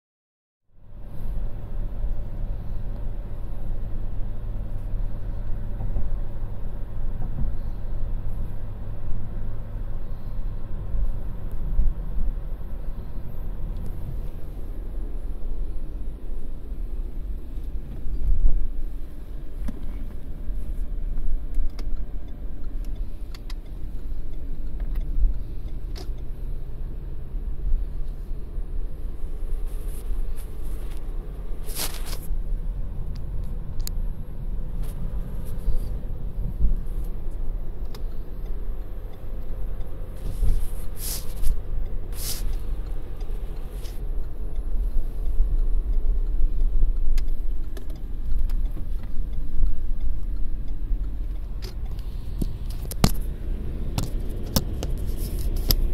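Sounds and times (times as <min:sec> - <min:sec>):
car engine hum and road rumble: 0:00.6 - 0:55.9.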